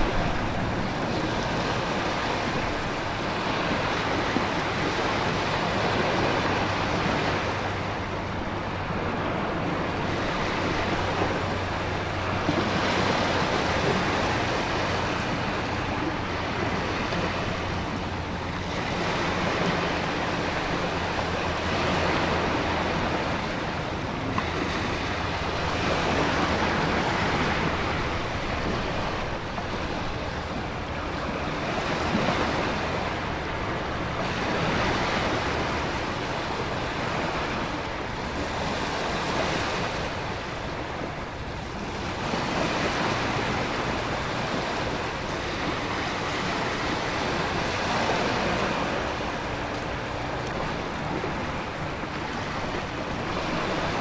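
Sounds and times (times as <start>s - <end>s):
heavy ocean waves breaking: 0.0s - 54.0s
wind and rain hiss: 0.0s - 54.0s.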